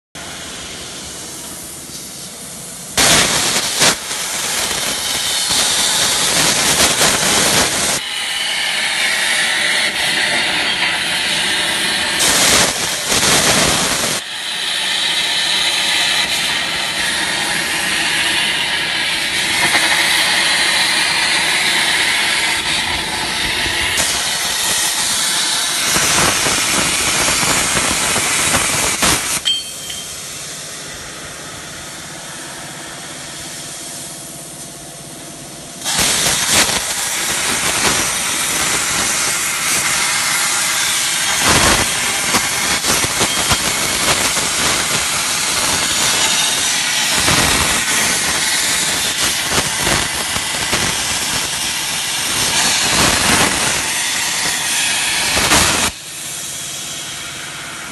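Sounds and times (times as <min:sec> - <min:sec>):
plasma torch cutting steel: 0:00.2 - 0:57.9.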